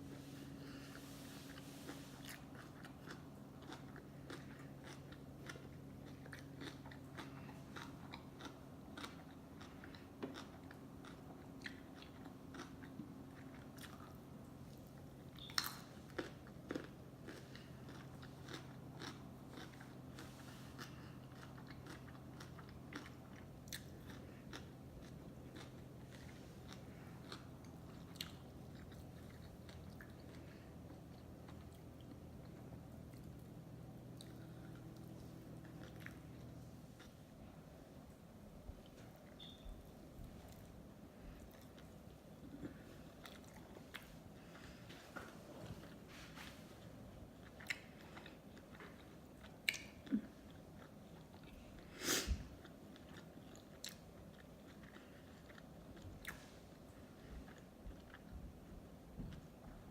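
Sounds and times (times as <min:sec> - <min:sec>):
wet chewing and mouth clicks: 0:01.5 - 0:37.6, 0:38.8 - 0:46.7, 0:47.3 - 0:59.5.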